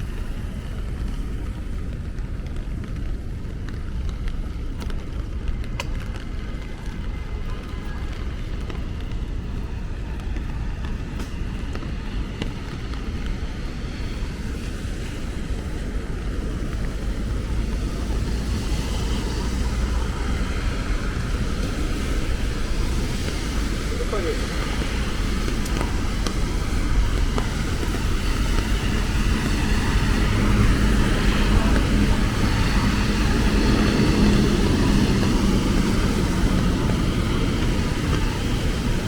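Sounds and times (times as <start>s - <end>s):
traffic rumble: 0.0s - 39.0s
vehicle passing on wet road: 0.0s - 39.0s
wind on microphone: 0.0s - 39.0s.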